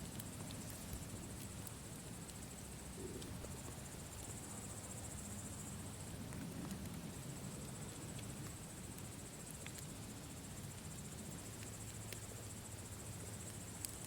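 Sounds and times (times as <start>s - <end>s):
campfire crackling: 0.0s - 14.0s
crickets chirring: 0.0s - 14.0s.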